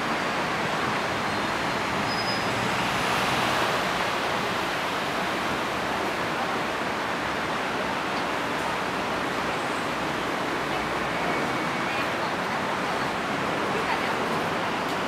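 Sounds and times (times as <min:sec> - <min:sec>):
distant city traffic roar: 0:00.0 - 0:15.0.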